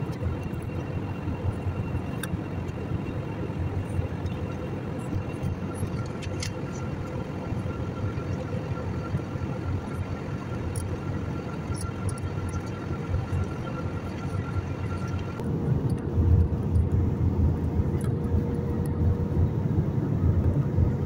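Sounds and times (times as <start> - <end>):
airliner cabin rumble and hiss: 0.0 - 21.0
faint steady whine: 0.0 - 21.0.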